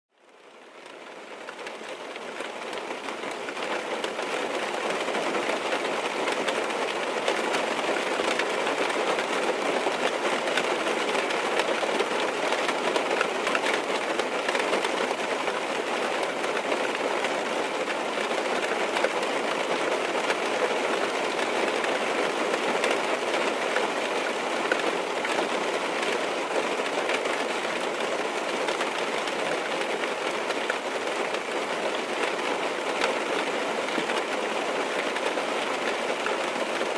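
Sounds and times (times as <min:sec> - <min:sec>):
rain on car roof: 0:00.3 - 0:36.9.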